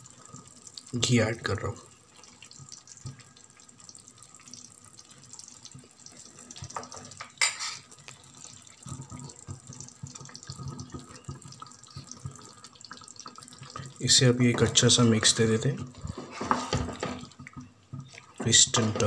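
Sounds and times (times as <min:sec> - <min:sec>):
gravy simmering in a pan: 0:00.0 - 0:19.0.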